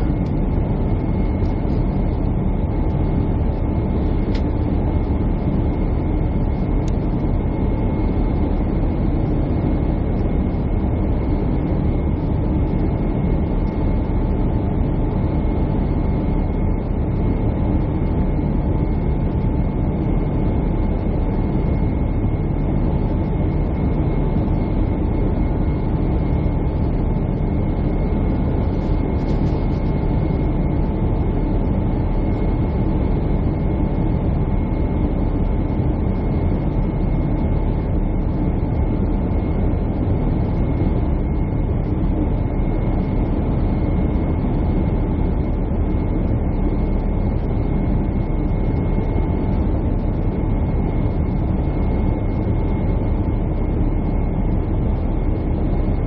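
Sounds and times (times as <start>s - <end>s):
thin steady whine: 0.0s - 56.0s.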